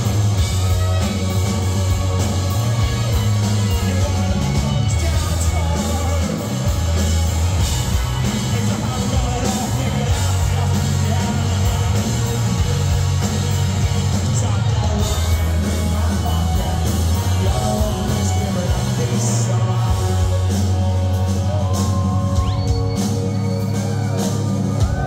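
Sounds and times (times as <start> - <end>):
live rock band playing: 0.0 - 25.0
person singing: 0.0 - 25.0.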